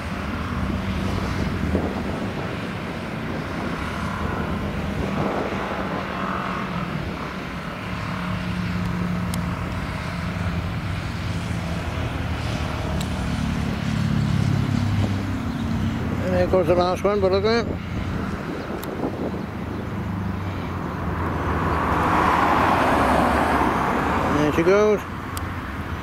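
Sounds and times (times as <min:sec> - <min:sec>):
motorcycles and traffic passing: 0:00.0 - 0:26.0.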